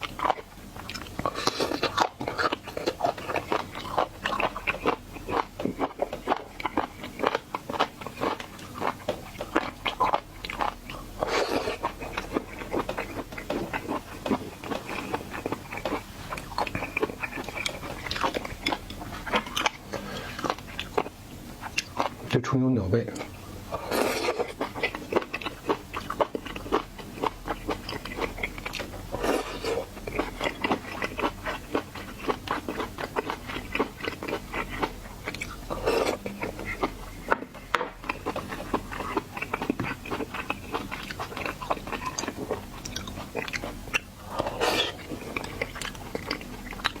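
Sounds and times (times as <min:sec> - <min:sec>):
crunchy chewing and biting: 0:00.0 - 0:22.3, 0:23.1 - 0:47.0.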